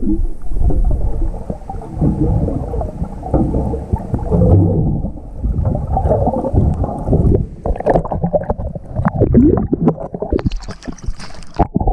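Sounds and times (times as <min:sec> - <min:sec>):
bubbles crackling: 0:00.0 - 0:11.9
muffled water sloshing and gurgling: 0:00.0 - 0:11.9.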